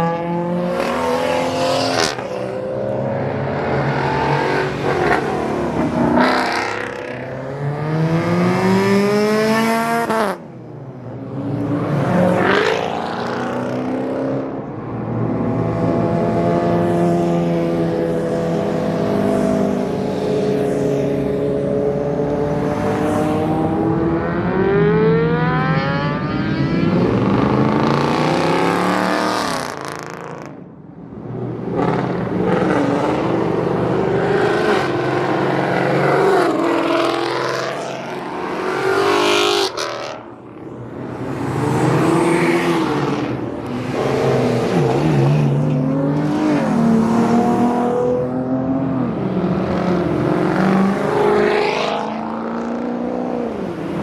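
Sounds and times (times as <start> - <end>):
car engines revving and passing: 0.0 - 54.0.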